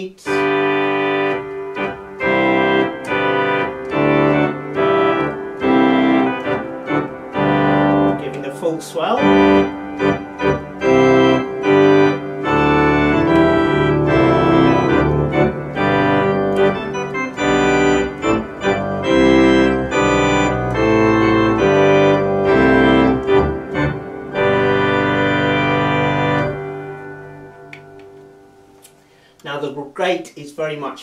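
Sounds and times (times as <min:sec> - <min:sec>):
organ playing chords: 0:00.0 - 0:29.4.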